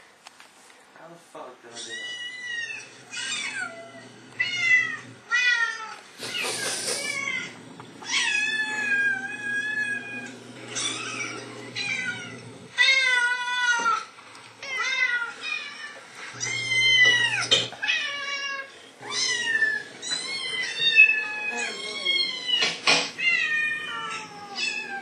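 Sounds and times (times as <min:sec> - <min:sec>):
recorded cat meows from speakers: 0:01.9 - 0:25.0.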